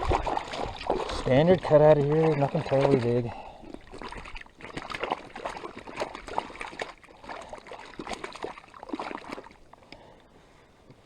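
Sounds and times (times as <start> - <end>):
water splashing and dripping: 0.0 - 9.8.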